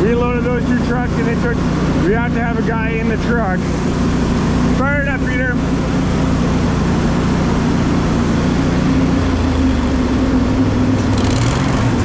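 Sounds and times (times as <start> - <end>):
grain conveyor engine running: 0.0 - 12.0.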